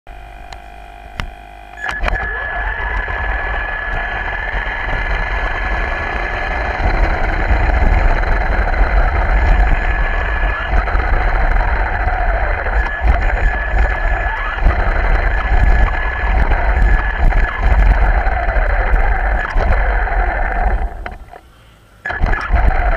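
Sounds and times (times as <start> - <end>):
toy car motor whine and rumble: 0.1 - 21.4, 22.1 - 22.9.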